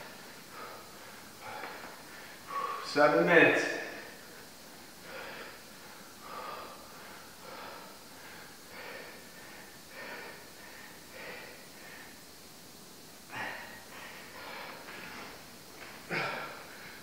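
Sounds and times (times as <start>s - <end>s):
man breathing hard: 0.0s - 3.0s, 3.8s - 12.4s, 13.2s - 17.0s.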